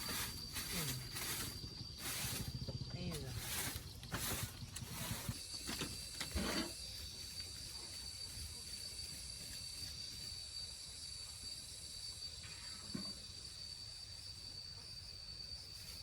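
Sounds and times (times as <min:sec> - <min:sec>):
insects droning: 0:00.0 - 0:16.0
outdoor hiss: 0:00.0 - 0:16.0.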